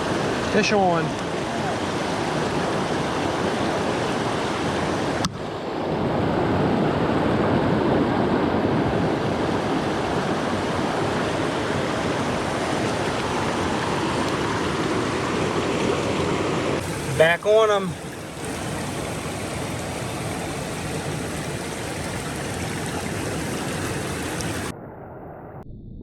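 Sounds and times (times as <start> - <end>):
rushing mountain stream: 0.0 - 24.7.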